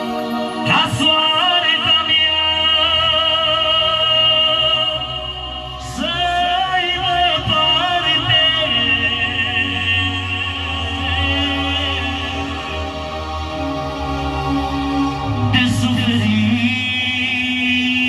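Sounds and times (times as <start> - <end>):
sustained accompaniment: 0.0 - 18.0.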